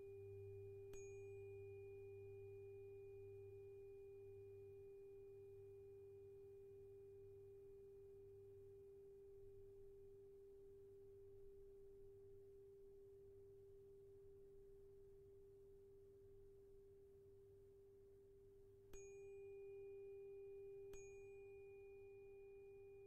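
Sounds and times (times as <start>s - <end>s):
tuning fork tone: 0.0s - 23.0s.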